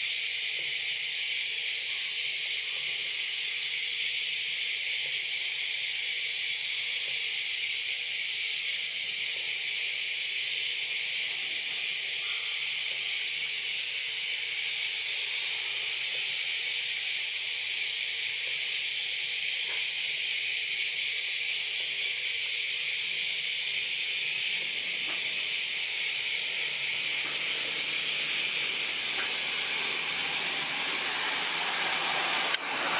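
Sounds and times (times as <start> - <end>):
high-pitched hiss: 0.0 - 32.9.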